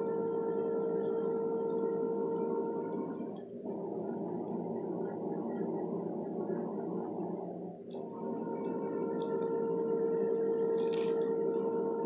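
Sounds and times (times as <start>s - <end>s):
low droning hum: 0.0s - 12.0s.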